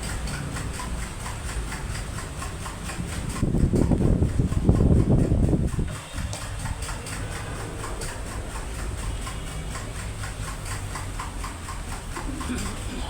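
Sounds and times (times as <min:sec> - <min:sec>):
electric fan humming: 0:00.0 - 0:13.0
light ticking of fan: 0:00.0 - 0:13.0.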